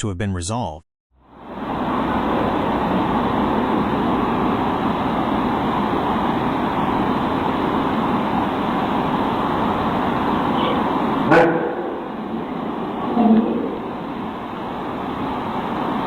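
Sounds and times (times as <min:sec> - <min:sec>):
muffled distant traffic rush: 0:01.3 - 0:16.0.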